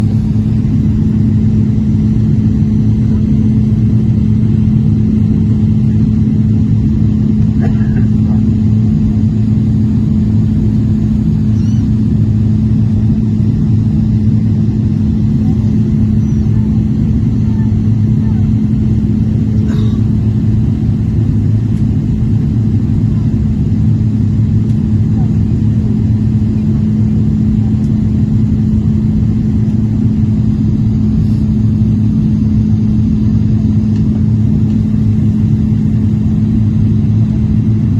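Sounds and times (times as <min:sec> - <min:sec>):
airliner cabin engine drone: 0:00.0 - 0:37.9
low hum: 0:00.0 - 0:37.9.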